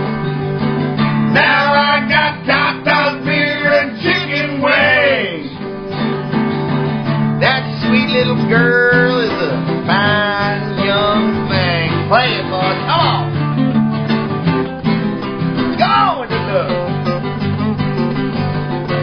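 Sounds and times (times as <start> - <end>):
acoustic guitar strumming: 0.0 - 19.0
sliding high guitar notes: 0.0 - 19.0.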